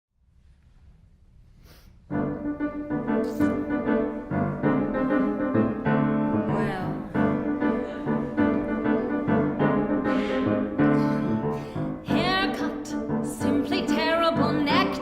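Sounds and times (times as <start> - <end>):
piano chords: 2.1 - 15.0.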